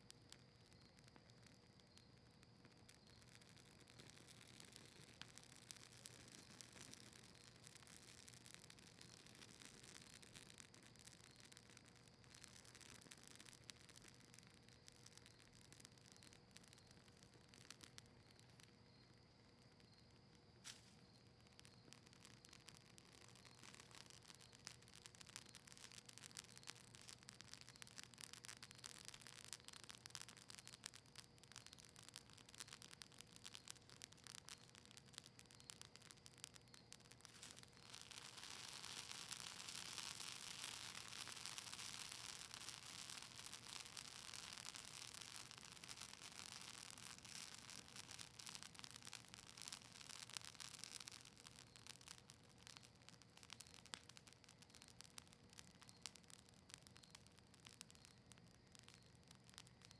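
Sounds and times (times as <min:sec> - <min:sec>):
campfire crackling: 0:00.0 - 0:59.9
steady hiss: 0:00.0 - 0:59.9.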